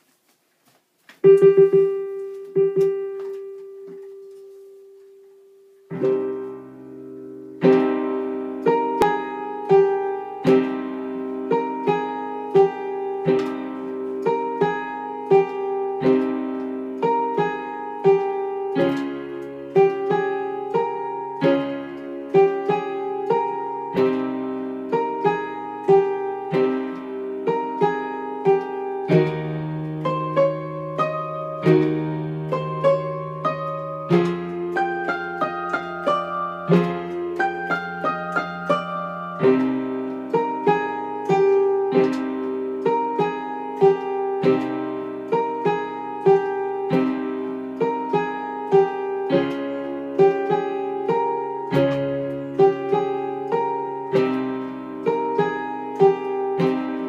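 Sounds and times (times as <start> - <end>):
piano playing: 1.2 - 57.0.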